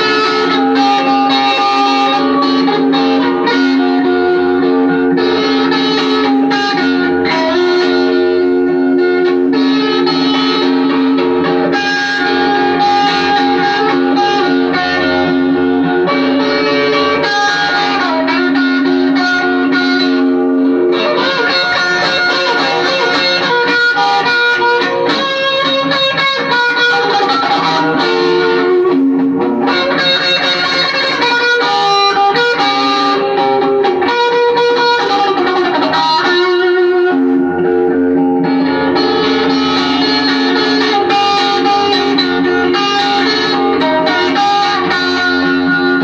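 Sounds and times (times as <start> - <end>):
guitar chords: 0.0 - 46.0.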